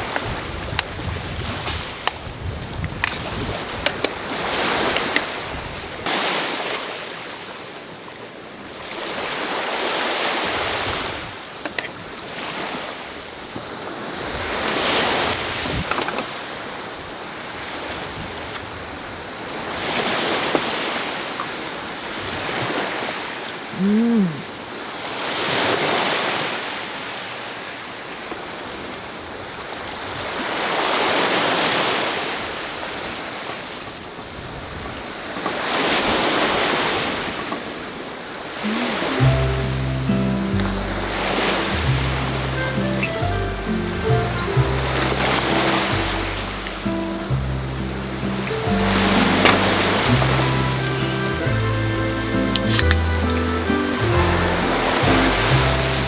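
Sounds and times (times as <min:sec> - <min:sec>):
sea waves breaking on shore: 0:00.0 - 0:23.8, 0:24.4 - 0:56.0
wind: 0:00.0 - 0:56.0.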